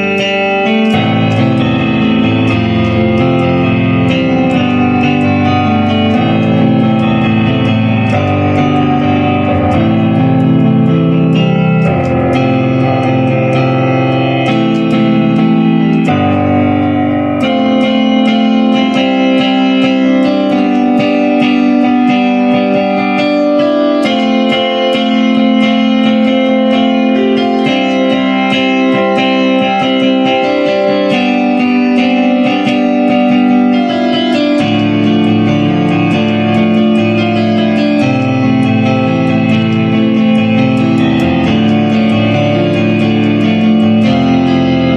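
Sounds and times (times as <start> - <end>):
guitar playing: 0.0 - 44.9.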